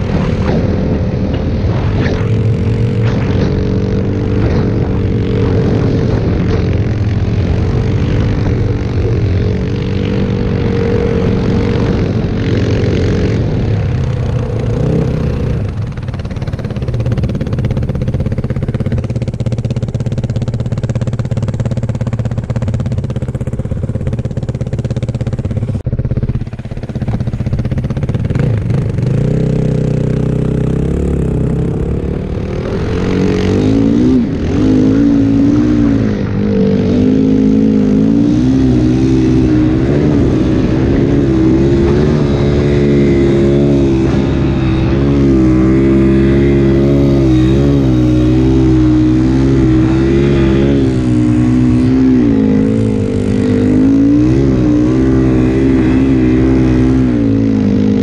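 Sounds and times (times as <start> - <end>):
snowbike engine revving: 0.0 - 58.0.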